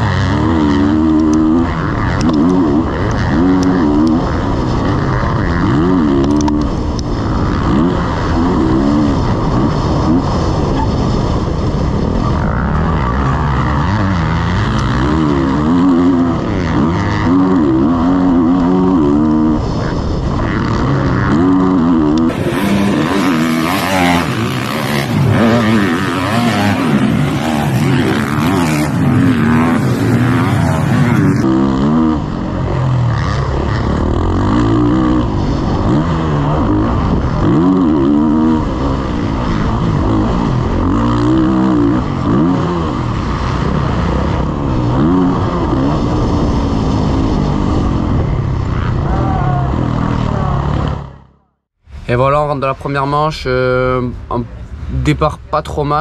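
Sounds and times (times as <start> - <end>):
wind noise: 0.0 - 51.2
motocross bike engine revving: 0.0 - 51.6.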